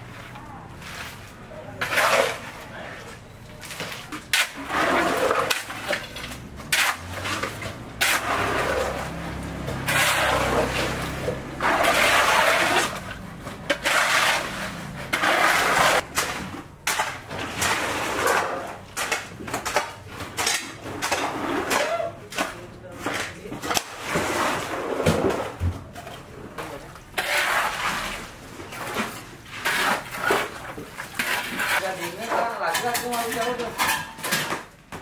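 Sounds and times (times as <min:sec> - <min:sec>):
wet concrete splashing: 0:00.8 - 0:33.5.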